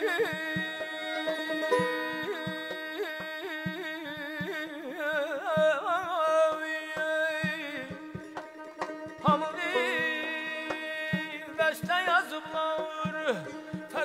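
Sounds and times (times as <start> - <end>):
man singing with trills: 0.0 - 14.0.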